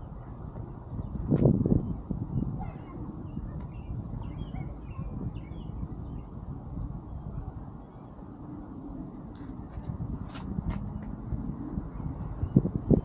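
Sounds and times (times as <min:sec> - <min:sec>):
birds chirping: 0:00.0 - 0:13.0
wind noise rumble: 0:00.0 - 0:13.0.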